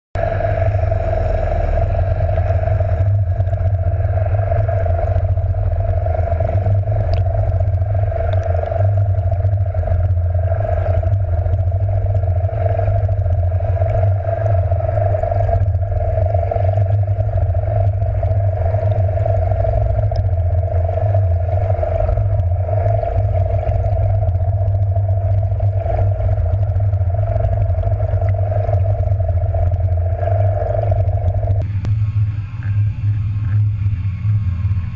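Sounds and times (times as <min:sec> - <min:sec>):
boat motor hum: 0:00.2 - 0:34.9
underwater water rush: 0:00.2 - 0:34.9.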